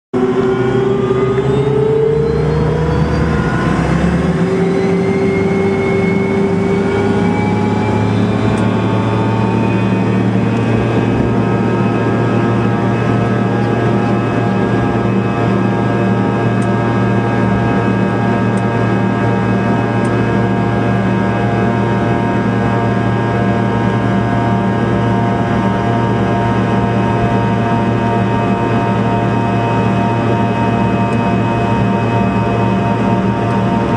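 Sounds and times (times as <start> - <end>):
jet engines spooling up: 0.2 - 33.9.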